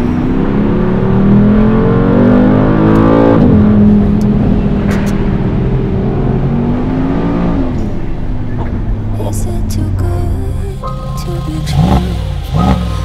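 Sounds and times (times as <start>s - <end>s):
car engine accelerating hard: 0.0s - 10.0s, 11.1s - 13.0s.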